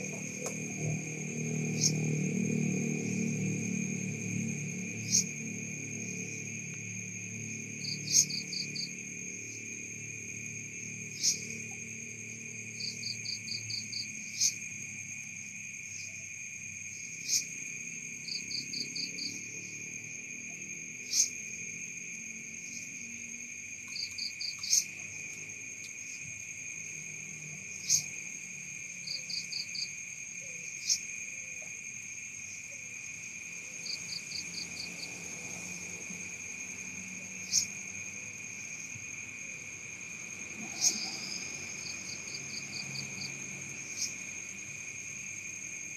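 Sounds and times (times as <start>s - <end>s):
insects high-pitched drone: 0.0s - 45.9s
quick cricket chirps: 0.0s - 45.9s.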